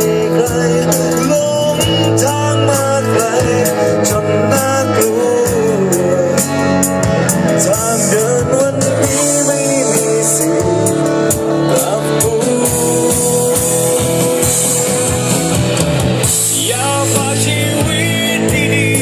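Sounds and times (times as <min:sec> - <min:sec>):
drum cymbals and beats: 0:00.0 - 0:19.0
electric guitar: 0:00.0 - 0:19.0
live rock band playing: 0:00.0 - 0:19.0.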